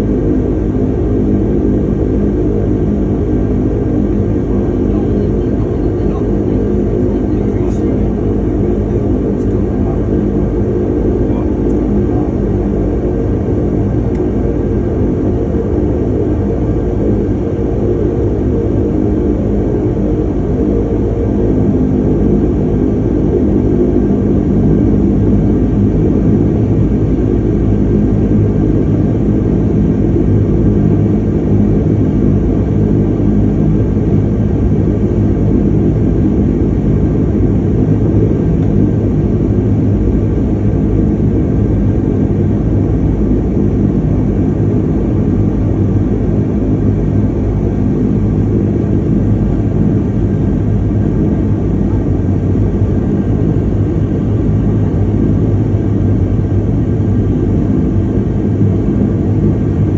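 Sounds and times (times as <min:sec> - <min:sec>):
turboprop engines droning: 0:00.0 - 0:59.9.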